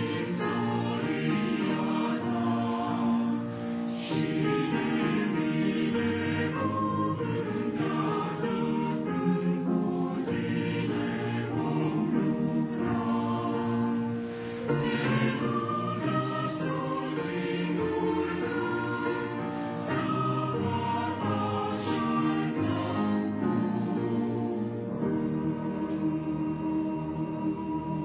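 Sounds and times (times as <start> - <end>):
mixed choir singing: 0.0 - 28.0.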